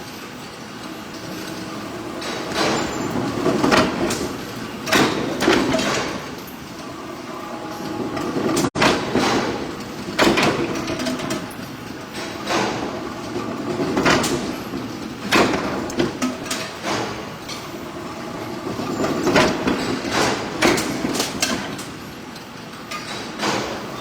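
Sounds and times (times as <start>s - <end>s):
machinery hum: 0.0s - 22.3s.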